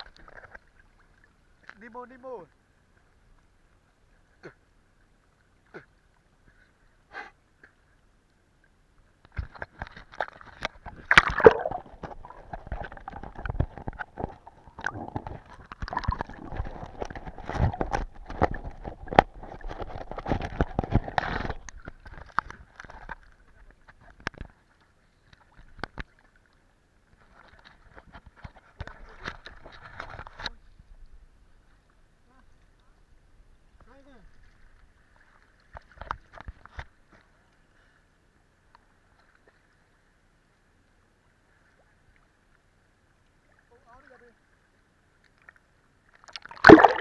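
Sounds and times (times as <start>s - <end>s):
muffled water sloshing and gurgling: 0.0s - 38.0s, 41.3s - 47.0s.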